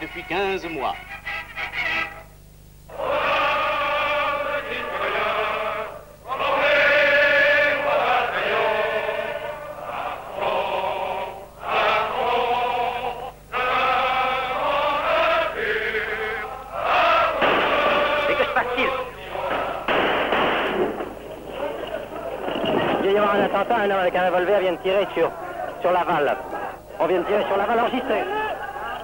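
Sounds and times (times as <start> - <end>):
men's choir singing: 2.9 - 29.0.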